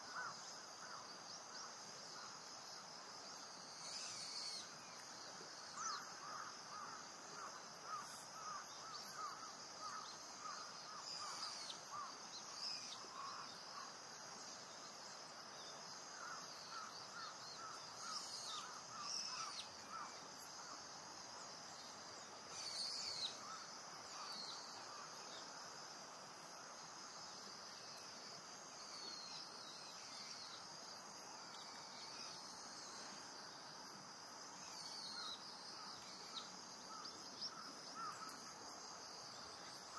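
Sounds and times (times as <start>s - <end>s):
insect chirring: 0.0s - 39.9s.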